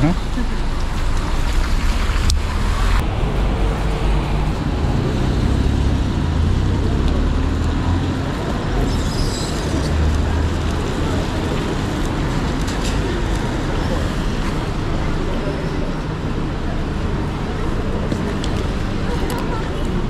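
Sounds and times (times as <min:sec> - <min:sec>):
deep uneven rumble: 0:00.0 - 0:20.0
road traffic on wet street: 0:00.0 - 0:20.0.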